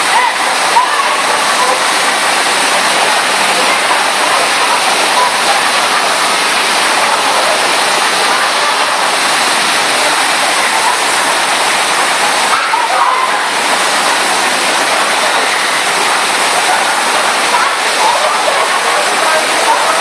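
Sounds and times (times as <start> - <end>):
water rushing up ramp: 0.0 - 20.0.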